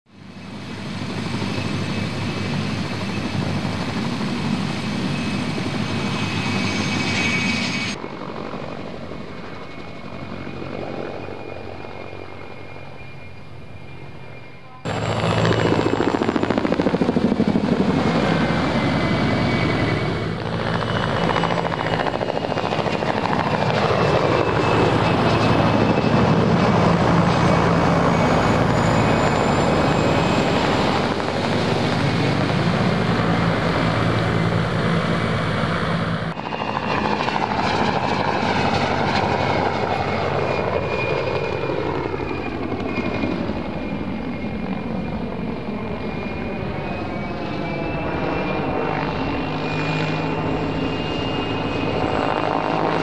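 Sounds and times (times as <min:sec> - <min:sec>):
helicopter rotor noise: 0:00.1 - 0:53.0
helicopter turbine whine: 0:00.1 - 0:53.0.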